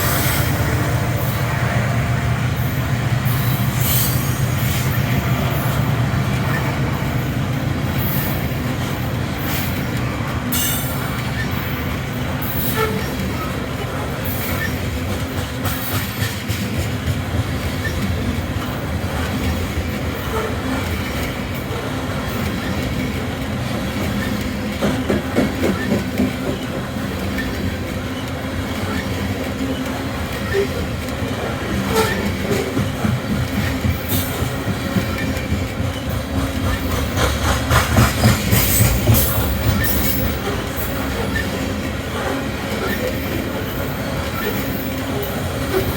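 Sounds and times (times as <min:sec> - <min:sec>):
train rumbling past: 0:00.0 - 0:45.9
train wheels clicking: 0:00.0 - 0:45.9
wheels clacking over rail joints: 0:00.0 - 0:45.9.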